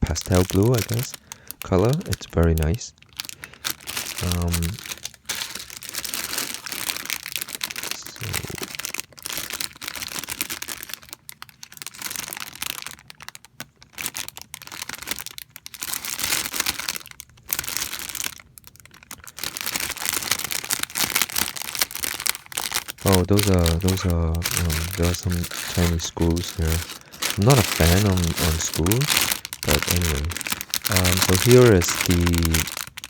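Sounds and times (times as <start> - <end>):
plastic bags crinkling: 0.0 - 33.0.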